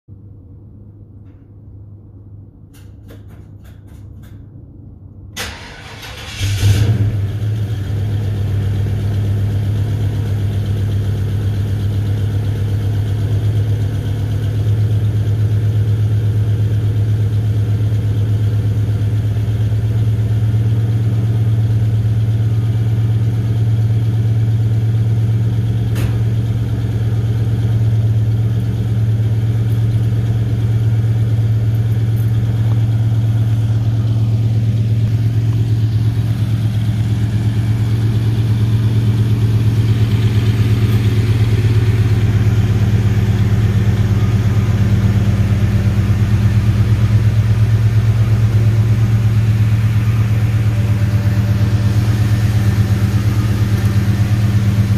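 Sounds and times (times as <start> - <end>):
car engine starting and idling: 5.2 - 54.9.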